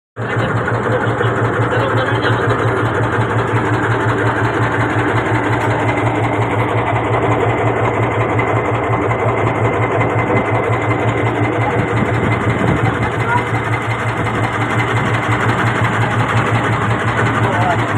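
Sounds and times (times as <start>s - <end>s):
small boat engine chugging: 0.2s - 17.9s.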